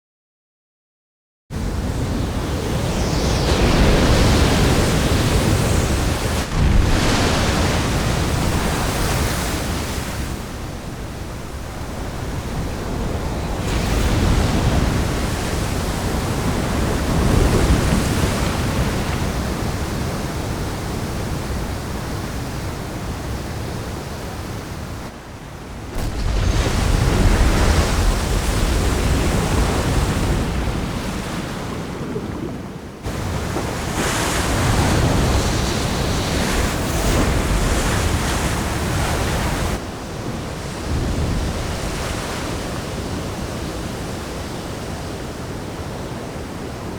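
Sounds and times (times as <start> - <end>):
heavy ocean waves crashing: 1.6 - 46.9.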